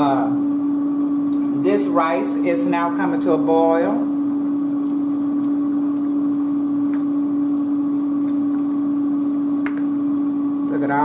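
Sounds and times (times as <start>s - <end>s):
kitchen appliance humming: 0.0s - 11.0s
pot bubbling: 0.0s - 11.0s.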